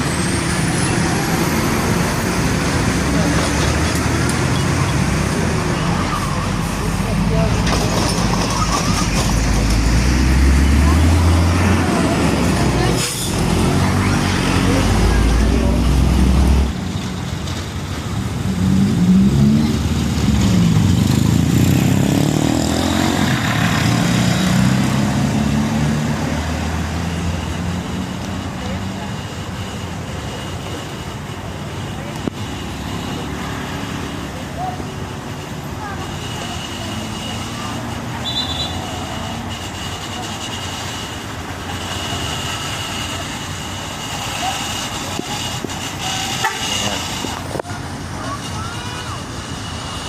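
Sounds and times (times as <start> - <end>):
diesel truck engine drone: 0.0 - 50.0
tyre and traffic noise: 0.0 - 50.0.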